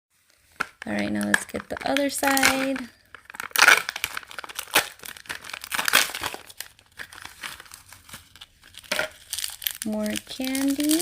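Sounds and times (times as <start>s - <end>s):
packaging crinkling and tearing: 0.4s - 11.0s.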